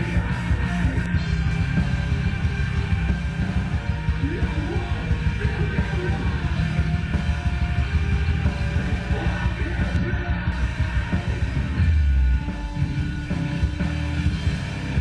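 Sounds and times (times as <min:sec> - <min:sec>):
live rock band: 0:00.0 - 0:15.0.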